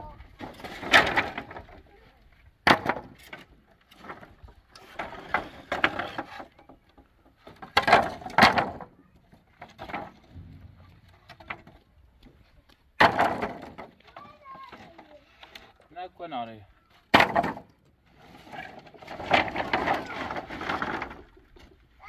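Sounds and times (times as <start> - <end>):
wooden planks clattering: 0.0 - 15.9, 16.8 - 22.0.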